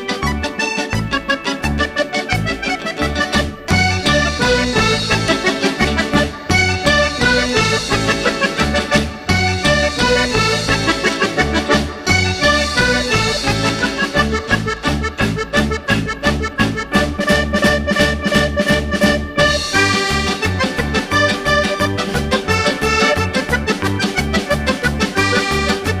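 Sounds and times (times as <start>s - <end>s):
upbeat music with bouncing beat: 0.0s - 26.0s.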